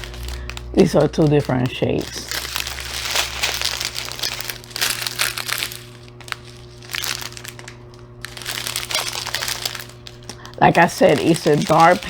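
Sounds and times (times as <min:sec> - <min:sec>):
plastic bags crinkling: 0:00.0 - 0:12.0
steady low hum: 0:00.0 - 0:12.0.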